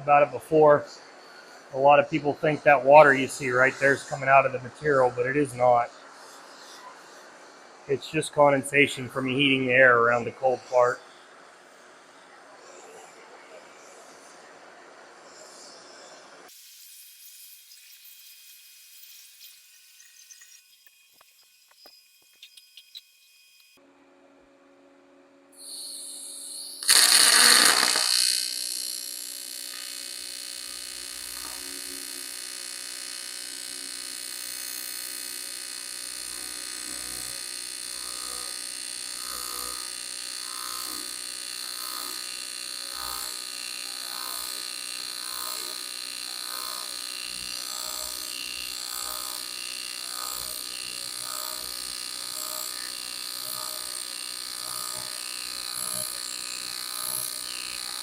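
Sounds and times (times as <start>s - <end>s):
welding arc buzzing: 0.0s - 11.0s, 16.5s - 23.8s, 25.6s - 58.0s.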